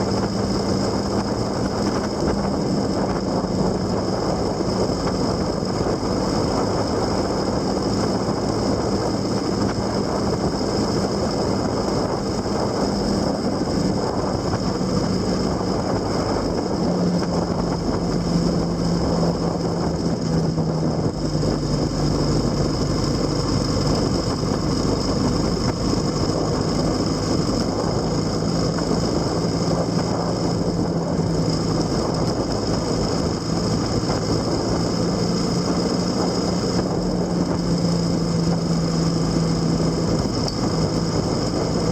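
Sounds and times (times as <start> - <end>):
vehicle engine running: 0.0 - 41.9
wind and road noise: 0.0 - 41.9.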